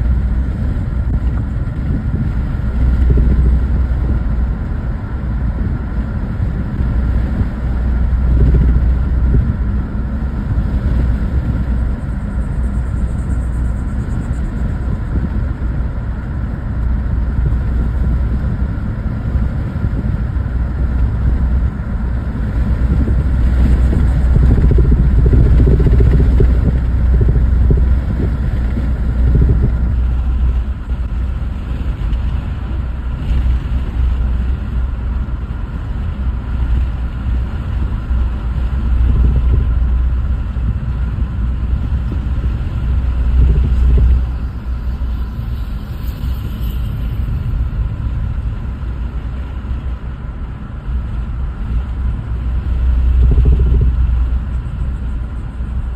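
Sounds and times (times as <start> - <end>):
car interior road rumble: 0.0 - 55.9.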